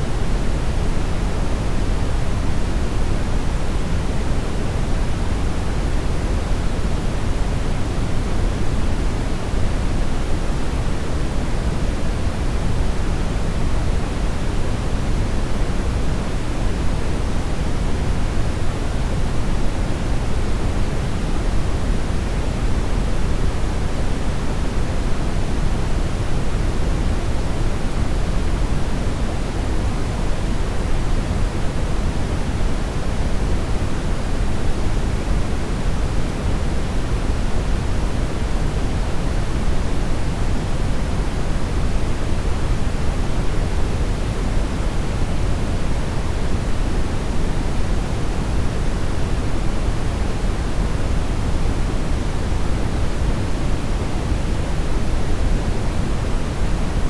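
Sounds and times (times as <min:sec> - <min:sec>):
steady brown noise: 0:00.0 - 0:57.0.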